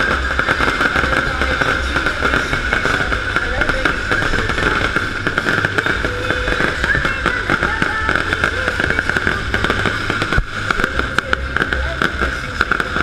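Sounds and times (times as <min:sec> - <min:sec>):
fireworks crackling: 0:00.0 - 0:13.0
heavy firework bang: 0:00.0 - 0:13.0.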